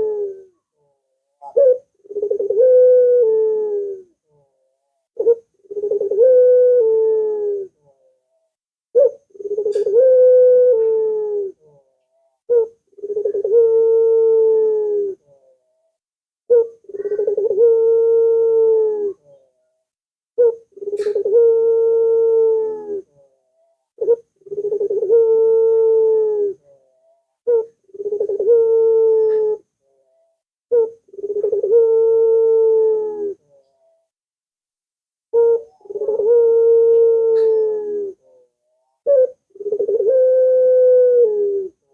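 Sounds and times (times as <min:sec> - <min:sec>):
dove cooing: 0:00.0 - 0:15.6, 0:16.5 - 0:19.6, 0:20.4 - 0:34.1, 0:35.3 - 0:41.9.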